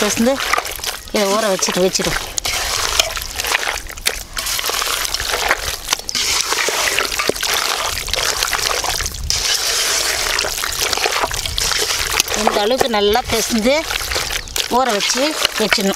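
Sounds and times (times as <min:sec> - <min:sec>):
hand squishing meat in marinade: 0:00.0 - 0:15.9.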